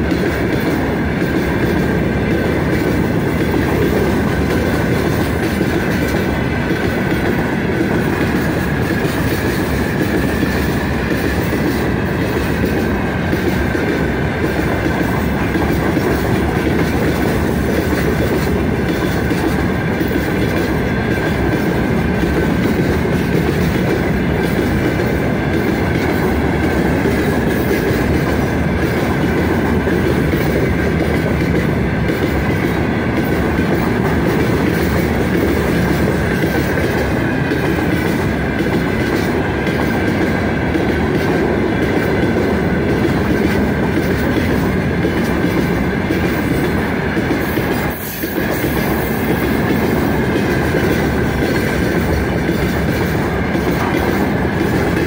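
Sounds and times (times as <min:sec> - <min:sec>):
train wheels rumbling on rails: 0:00.0 - 0:55.0
wheels clickety-clack: 0:00.0 - 0:55.0.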